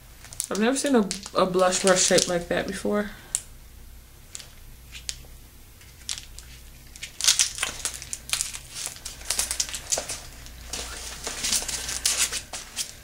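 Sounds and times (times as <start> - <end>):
packaging crinkling: 0.2 - 2.4, 4.3 - 13.0.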